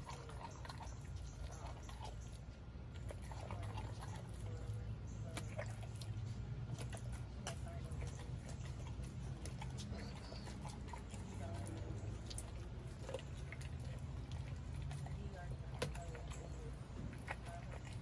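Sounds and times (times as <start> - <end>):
dog chewing and crunching: 0.0 - 18.0.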